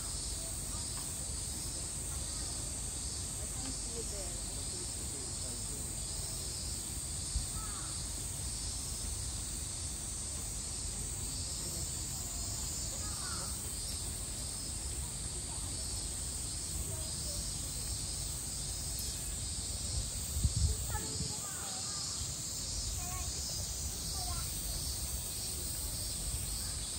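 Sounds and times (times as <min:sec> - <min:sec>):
cicadas chorus: 0:00.0 - 0:26.9.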